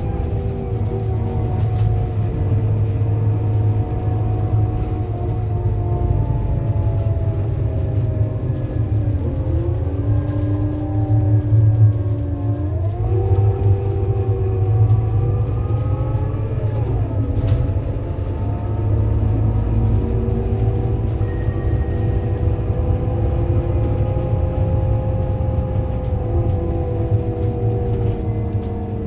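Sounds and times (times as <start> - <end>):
bus engine rumble: 0.0 - 29.0
gearbox whine: 0.0 - 29.0.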